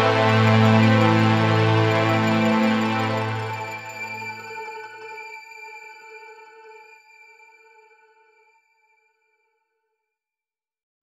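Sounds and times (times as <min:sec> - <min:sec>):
ambient music with held chords: 0:00.0 - 0:09.0.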